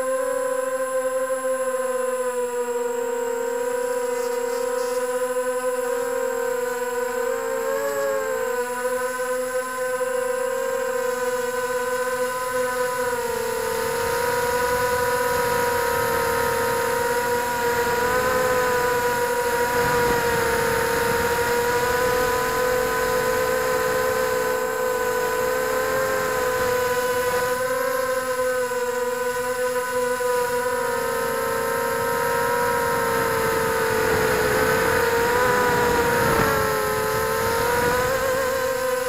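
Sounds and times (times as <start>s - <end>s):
model helicopter motor whine: 0.0s - 39.0s.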